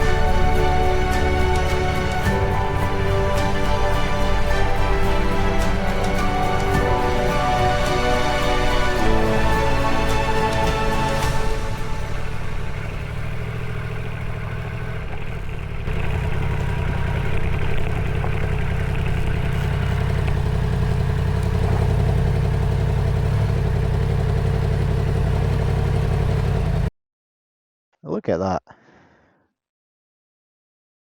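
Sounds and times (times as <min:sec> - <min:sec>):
motorcycle engine rumbling: 0:00.0 - 0:26.9.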